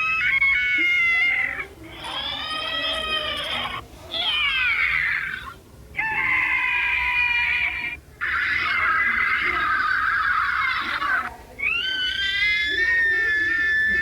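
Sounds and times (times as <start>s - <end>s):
high-pitched cartoon character cries: 0.0s - 14.0s.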